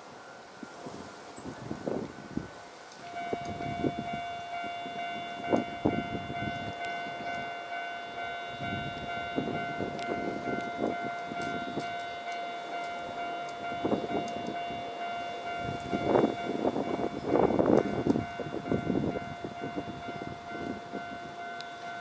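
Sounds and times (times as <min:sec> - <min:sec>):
level crossing alarm bell ringing: 0:03.0 - 0:22.0.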